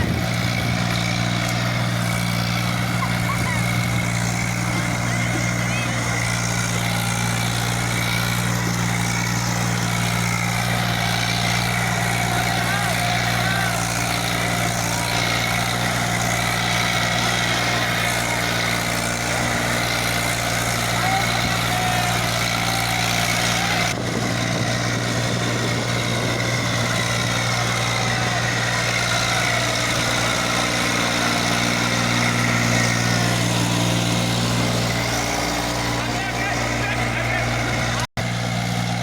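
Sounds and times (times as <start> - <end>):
faint voices: 0.0 - 24.8, 25.6 - 34.3, 34.9 - 38.1
tractor diesel engine running: 0.0 - 39.0.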